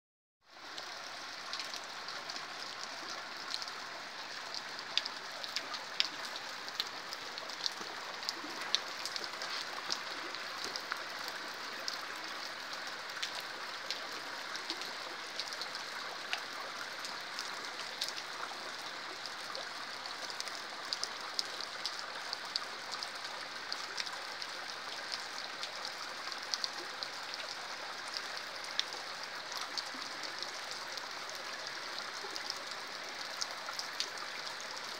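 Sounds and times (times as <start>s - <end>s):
raindrops ticking close by: 0.5s - 34.9s
steady rain hiss: 0.5s - 34.9s.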